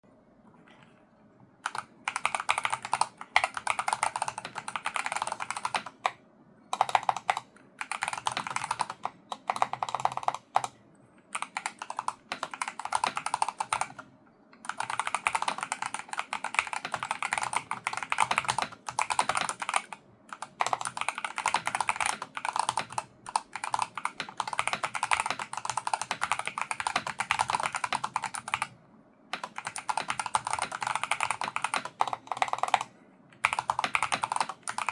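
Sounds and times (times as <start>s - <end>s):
keyboard typing: 1.6s - 34.9s.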